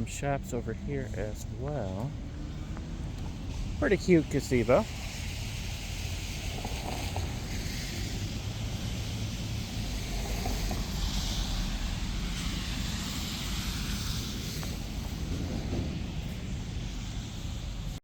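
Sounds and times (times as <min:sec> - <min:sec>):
low wind rumble on microphone: 0:00.0 - 0:18.0
rain hiss: 0:00.0 - 0:18.0
car tyres swishing on wet street: 0:00.1 - 0:18.0.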